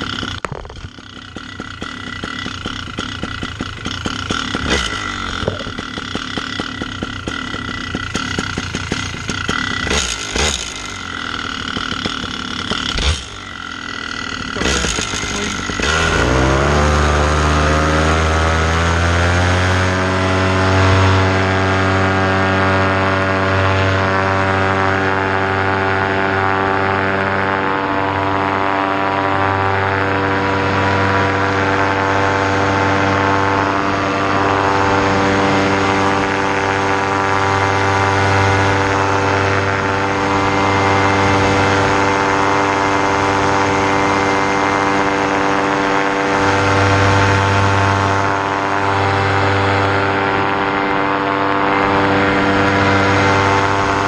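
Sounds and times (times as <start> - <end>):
paramotor engine and propeller: 0.0 - 54.0.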